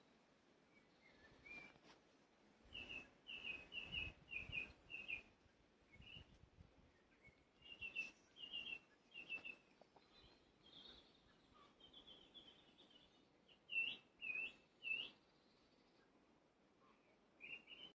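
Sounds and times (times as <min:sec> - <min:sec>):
faint outdoor background noise: 0:00.0 - 0:17.9
small bird chirping: 0:02.7 - 0:16.2, 0:16.8 - 0:17.9.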